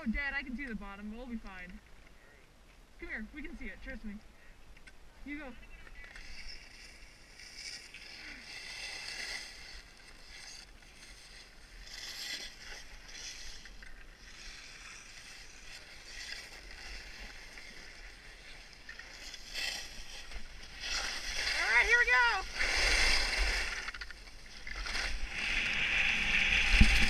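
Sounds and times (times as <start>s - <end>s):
skis scraping over snow: 5.3s - 27.0s.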